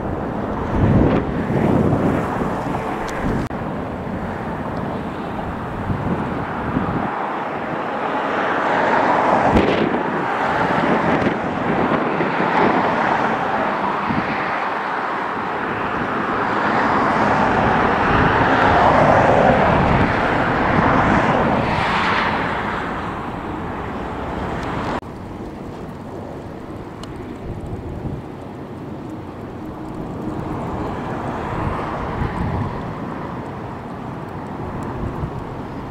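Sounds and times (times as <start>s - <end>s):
jet engine noise: 0.0s - 35.9s
wind buffeting microphone: 0.0s - 35.9s.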